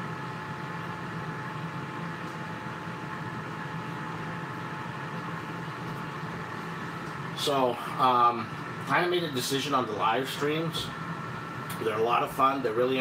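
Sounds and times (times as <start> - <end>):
air fryer fan whirring: 0.0 - 13.0.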